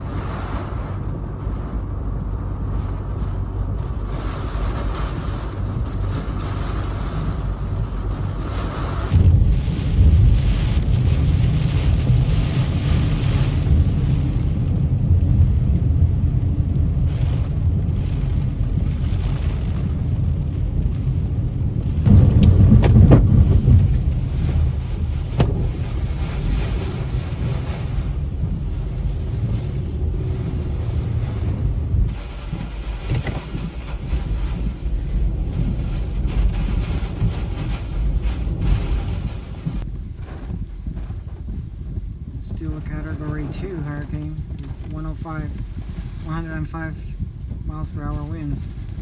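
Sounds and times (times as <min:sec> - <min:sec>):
strong wind buffeting microphone: 0:00.0 - 0:49.0.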